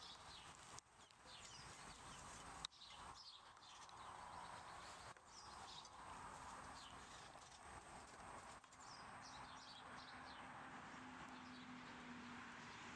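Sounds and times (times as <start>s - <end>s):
faint distant birds chirping: 0.0s - 12.9s.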